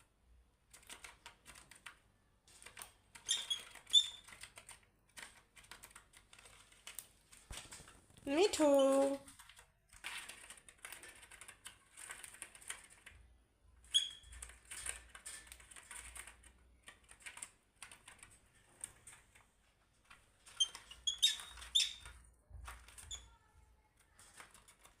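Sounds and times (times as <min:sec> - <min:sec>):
birds tapping and scratching: 0:00.7 - 0:25.0.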